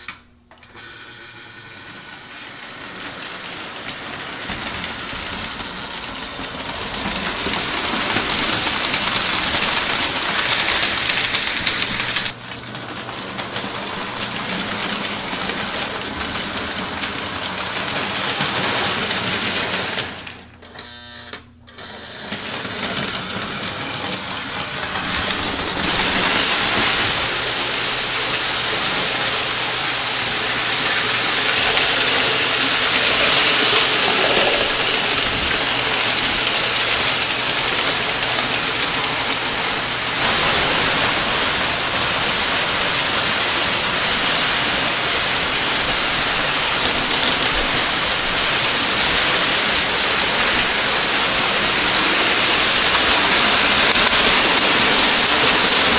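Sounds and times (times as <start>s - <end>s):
toy train motors whirring: 0.0s - 55.9s
wheels clattering over track: 2.9s - 20.6s, 22.2s - 55.9s.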